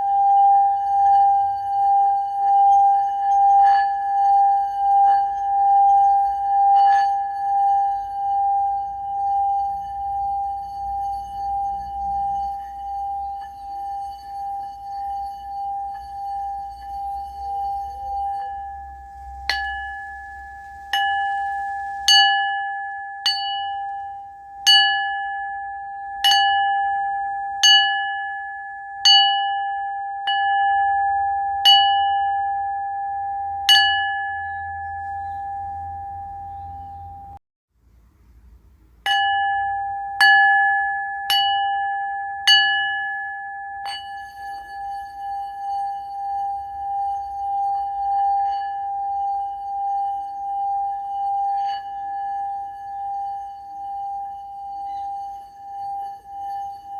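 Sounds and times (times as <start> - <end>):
singing bowl ringing: 0.0 - 37.4, 39.1 - 56.9.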